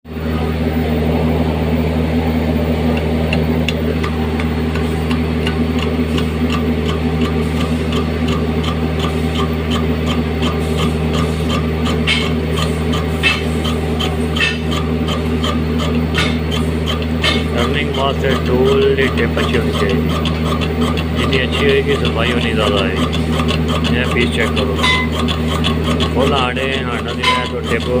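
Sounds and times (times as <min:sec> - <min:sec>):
metal lathe humming: 0:00.1 - 0:28.0
light ticking: 0:02.9 - 0:28.0.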